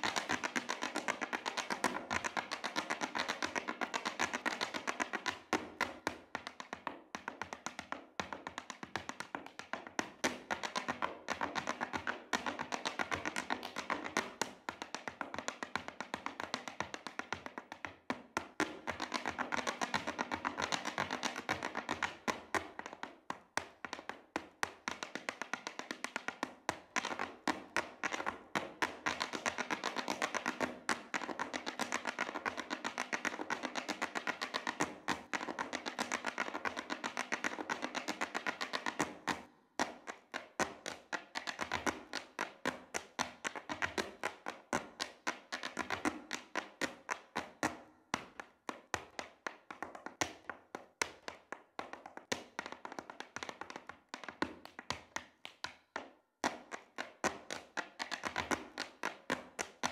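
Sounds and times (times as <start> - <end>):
hard shoes striking stage: 0.0 - 59.9.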